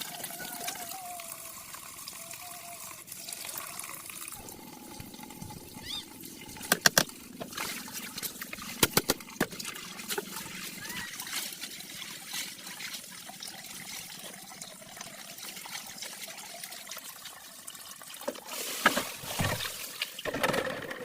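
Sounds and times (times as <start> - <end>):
water trickling and splashing: 0.0 - 20.3.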